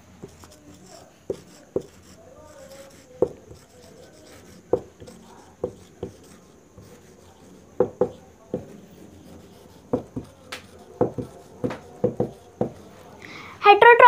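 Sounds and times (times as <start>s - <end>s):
marker tapping on whiteboard: 0.2s - 12.9s.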